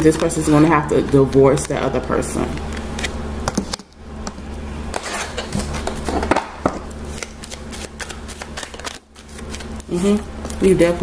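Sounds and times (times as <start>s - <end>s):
steady low hum: 0.0s - 11.0s
cards being shuffled: 0.1s - 3.9s, 5.4s - 10.7s.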